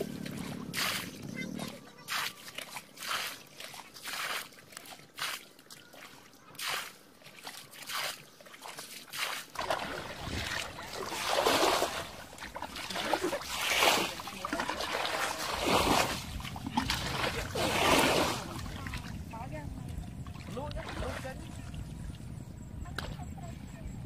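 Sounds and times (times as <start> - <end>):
water splashing and sloshing: 0.0 - 23.9.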